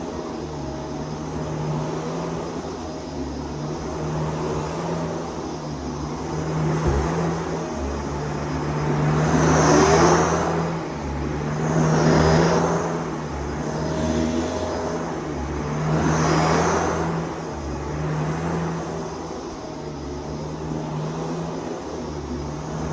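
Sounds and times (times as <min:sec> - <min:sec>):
vacuum cleaner running: 0:00.0 - 0:19.1.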